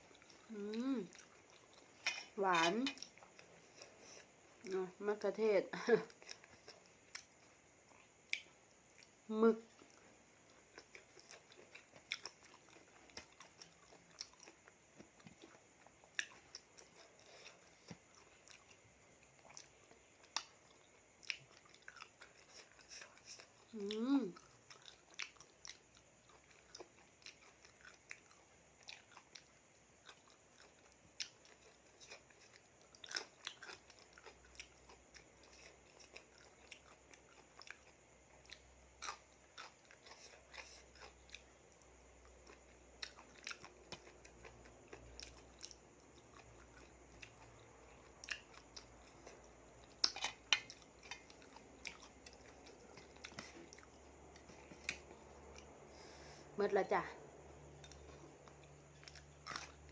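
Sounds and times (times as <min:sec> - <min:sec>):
close-up chewing: 0:00.0 - 0:56.6, 0:57.2 - 0:59.9.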